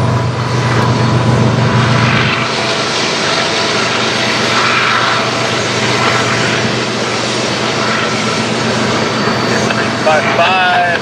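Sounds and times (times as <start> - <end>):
locomotive engine drone: 0.0 - 11.0
wheels rumbling on rail: 0.0 - 11.0.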